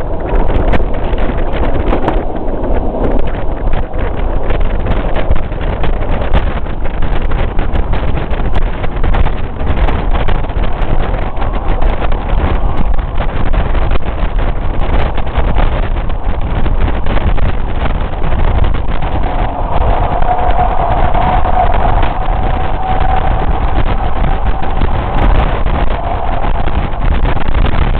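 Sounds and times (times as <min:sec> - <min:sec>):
train rumbling on rails: 0:00.0 - 0:27.9
wind buffeting microphone: 0:00.0 - 0:27.9.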